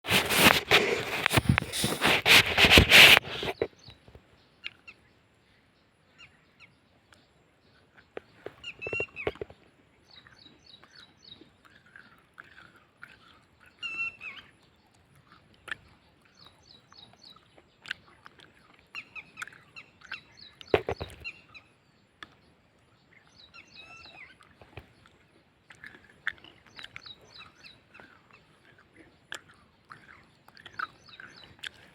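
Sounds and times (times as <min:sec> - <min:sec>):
birds calling and chirping: 0:00.1 - 0:31.9.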